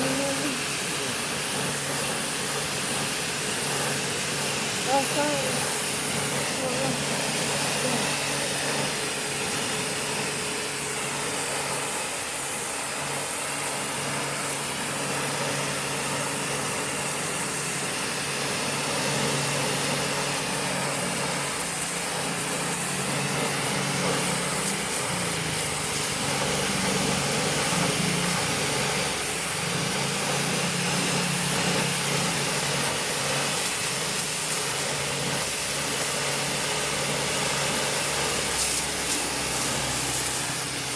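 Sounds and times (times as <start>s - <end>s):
pump motor hum: 0.0s - 40.9s
water jet spraying onto stone: 0.0s - 40.9s.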